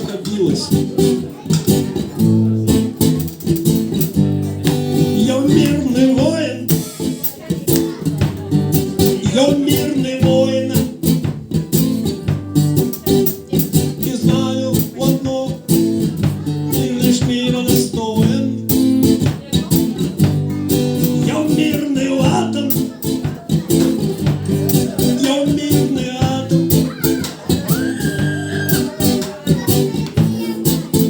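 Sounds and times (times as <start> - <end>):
guitar strumming chords: 0.0 - 31.0.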